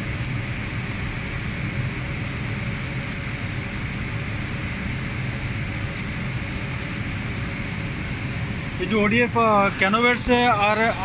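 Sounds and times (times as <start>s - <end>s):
cooling fans whirring: 0.0s - 11.0s.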